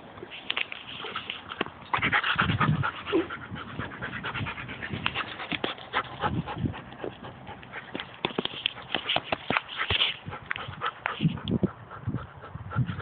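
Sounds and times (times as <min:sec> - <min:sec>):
dog panting: 0:01.0 - 0:13.0.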